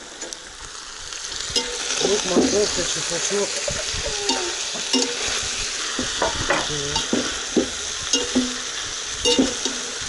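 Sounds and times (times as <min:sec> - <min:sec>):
vegetables and meat sizzling: 0:00.0 - 0:10.0.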